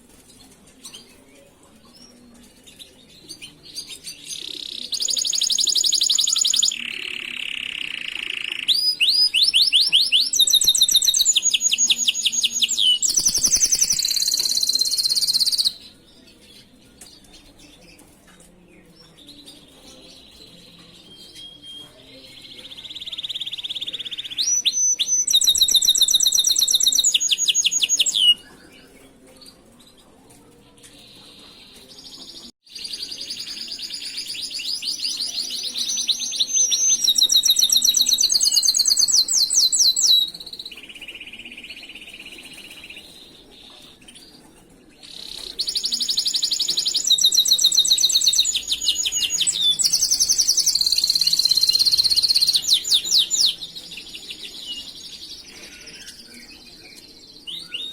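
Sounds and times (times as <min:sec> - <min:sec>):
canary singing trills: 0:03.4 - 0:15.9, 0:19.2 - 0:29.0, 0:31.0 - 0:43.4, 0:45.0 - 0:57.9.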